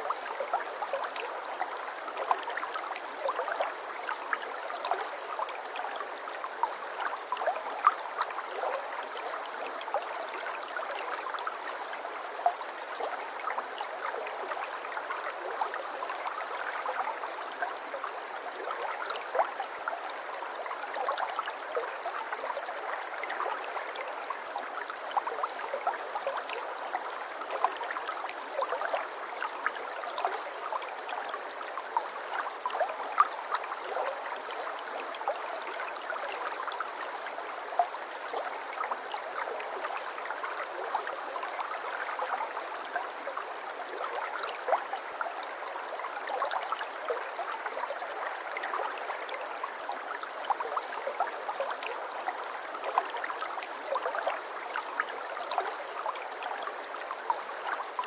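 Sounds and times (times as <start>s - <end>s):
brook water gurgling over stones: 0.0s - 58.0s.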